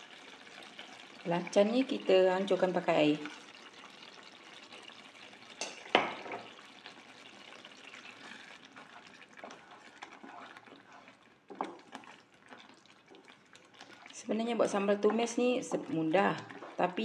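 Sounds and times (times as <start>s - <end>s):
paste sizzling in a frying pan: 0.0s - 17.0s
water pouring into pan: 0.0s - 17.0s
wooden spatula stirring: 0.1s - 17.0s.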